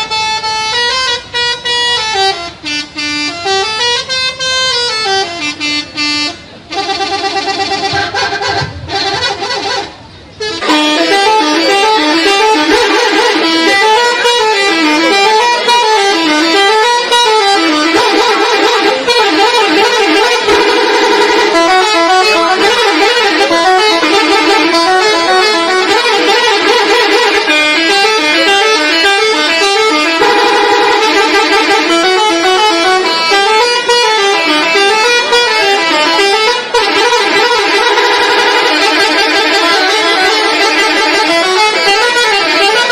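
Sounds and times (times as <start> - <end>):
multi-tone bus horn tune: 0.0 - 42.9.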